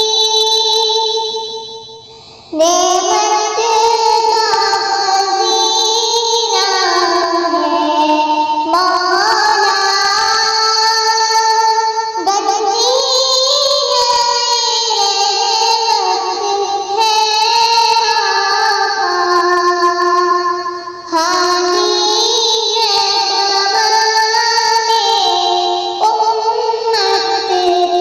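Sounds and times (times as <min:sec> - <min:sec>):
high voice singing: 0:00.0 - 0:28.0.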